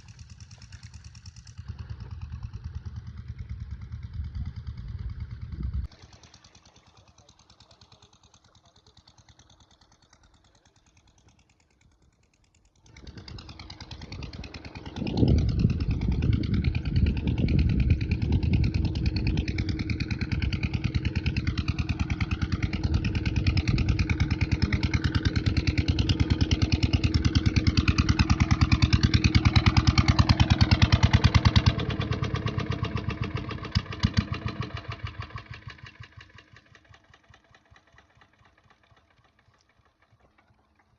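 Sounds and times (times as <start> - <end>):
diesel engine starting and chugging: 0.0 - 40.9.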